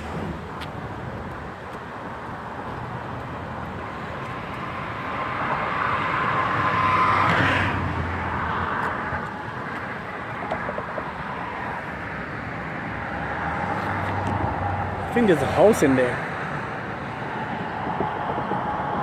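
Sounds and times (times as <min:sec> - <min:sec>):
car passing: 0:02.2 - 0:19.0.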